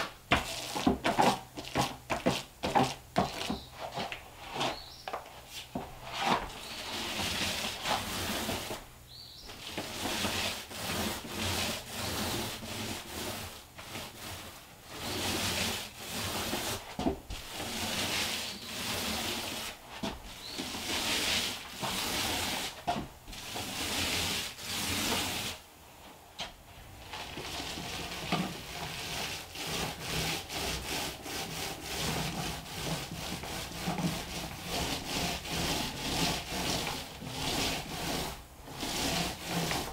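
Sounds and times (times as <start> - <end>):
paint roller rubbing on drywall: 0.1 - 25.7, 26.7 - 39.9.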